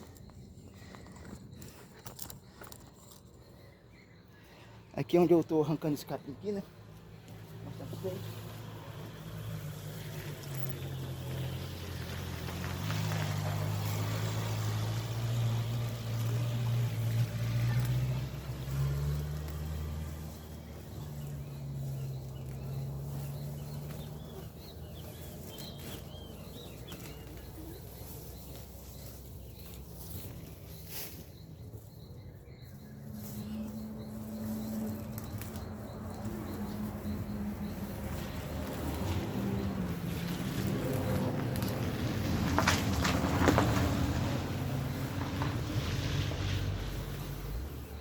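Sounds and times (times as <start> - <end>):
birds chirping: 0.0 - 48.0
low engine hum: 6.0 - 48.0.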